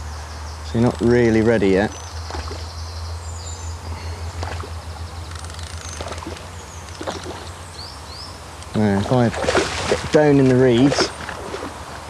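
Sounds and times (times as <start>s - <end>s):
low electrical hum with hiss: 0.0s - 12.0s
small birds chirping faintly: 0.0s - 12.0s.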